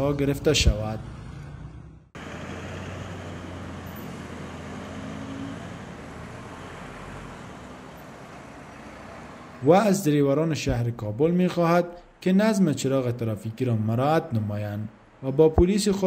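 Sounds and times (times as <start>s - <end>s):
car engines and road noise: 0.0s - 16.0s.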